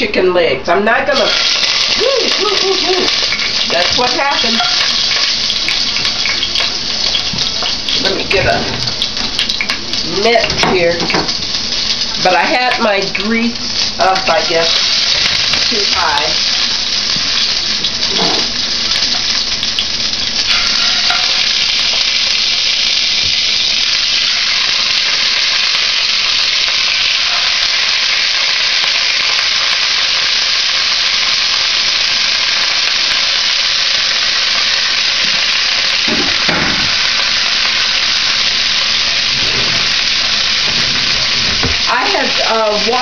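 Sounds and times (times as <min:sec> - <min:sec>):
chicken sizzling in a frying pan: 0:01.1 - 0:43.0.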